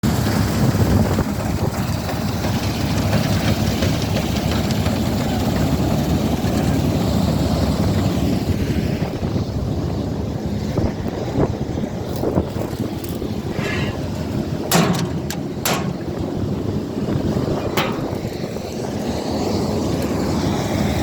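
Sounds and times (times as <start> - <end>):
combine harvester drone: 0.0 - 21.0.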